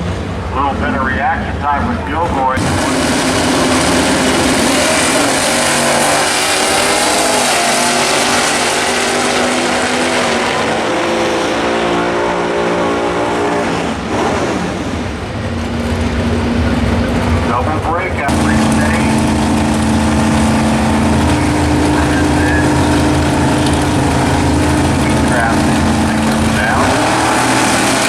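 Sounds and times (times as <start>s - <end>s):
drag racing car engines at full throttle: 0.0s - 28.0s.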